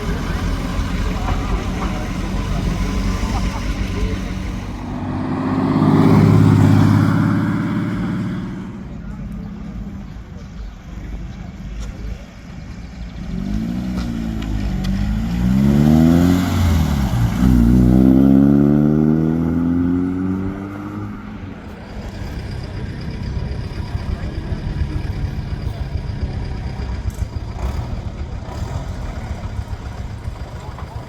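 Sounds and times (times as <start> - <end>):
low rumble of engines: 0.0 - 31.0
vehicle engine accelerating: 0.0 - 31.0.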